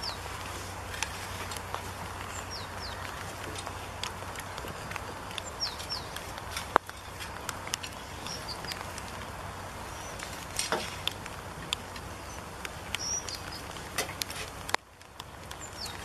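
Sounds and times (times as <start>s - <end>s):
small birds chirping: 0.0s - 16.0s
steady low hiss: 0.0s - 16.0s.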